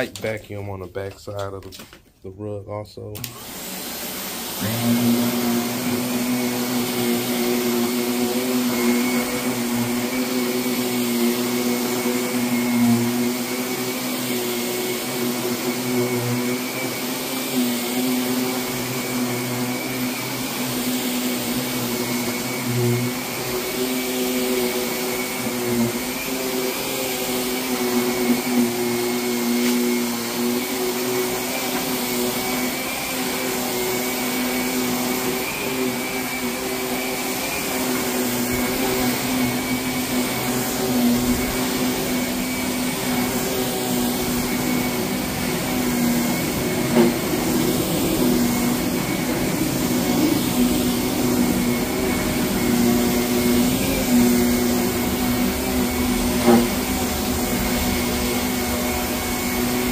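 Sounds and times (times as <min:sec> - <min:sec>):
vacuum cleaner running on rug: 0:03.2 - 0:59.9.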